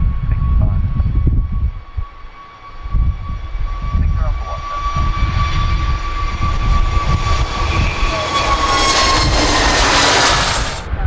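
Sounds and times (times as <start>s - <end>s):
jet engines rumbling and whining: 0.0s - 11.0s.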